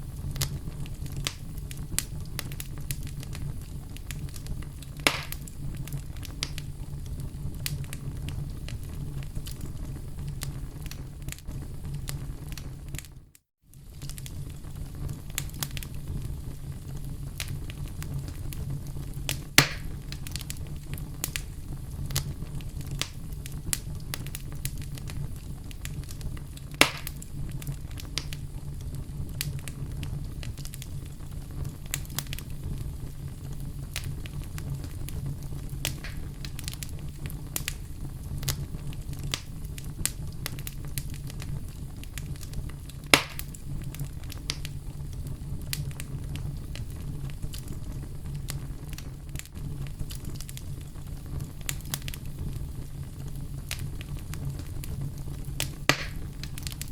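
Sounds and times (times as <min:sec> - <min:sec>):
fire crackling and popping: 0:00.0 - 0:56.9
low rumble of flames: 0:00.0 - 0:56.9.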